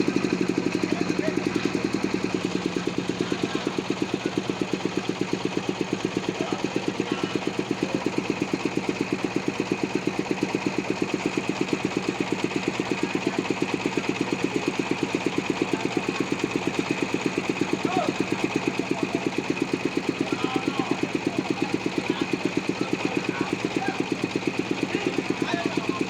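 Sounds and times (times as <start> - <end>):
engine chugging at low speed: 0.0 - 26.0.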